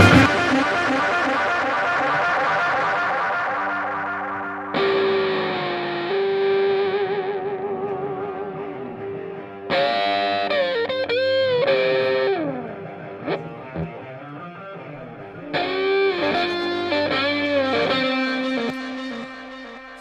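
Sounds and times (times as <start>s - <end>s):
distorted electric guitar lead: 0.0s - 20.0s.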